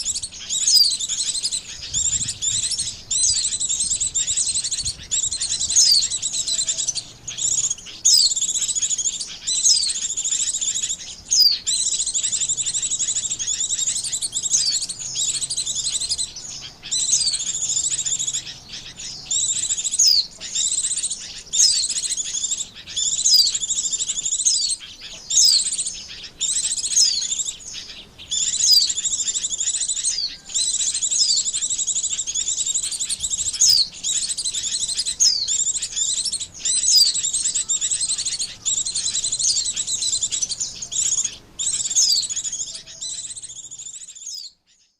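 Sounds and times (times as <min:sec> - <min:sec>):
bird twittering song: 0:00.0 - 0:44.9.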